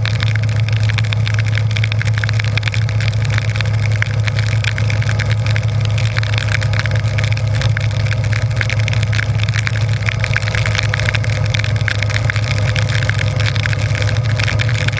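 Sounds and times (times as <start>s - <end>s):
motorcycle engine running: 0.0s - 14.9s
raindrops ticking on camera: 0.0s - 14.9s.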